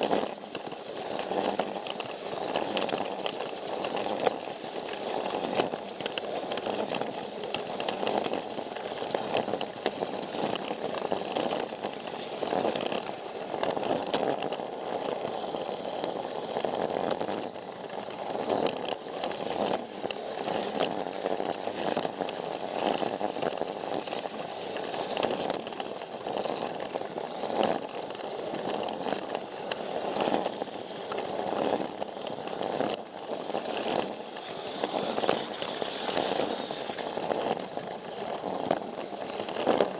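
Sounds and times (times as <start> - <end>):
toy train motor whirring: 0.0 - 39.9
wheels clicking on track joints: 0.0 - 39.9.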